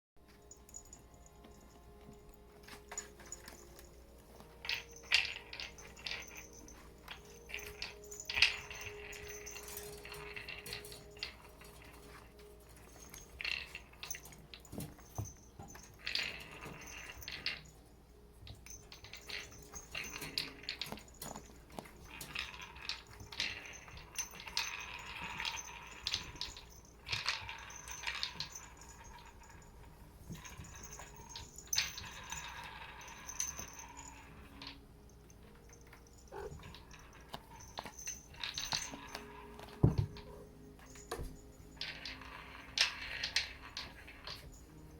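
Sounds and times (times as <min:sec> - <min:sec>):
cats playing with rattling toys: 0:00.3 - 0:44.9.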